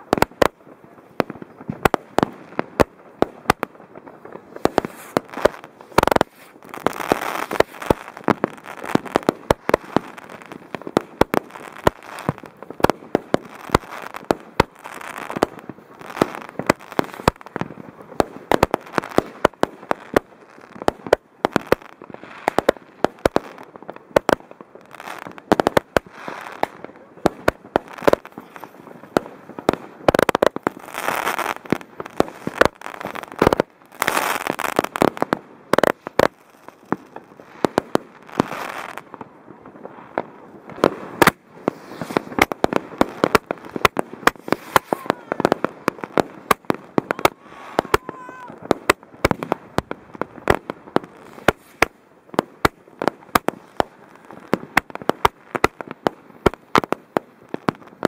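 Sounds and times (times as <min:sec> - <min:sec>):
fireworks banging: 0:00.0 - 0:58.0
fireworks crackling and hissing: 0:00.0 - 0:58.0.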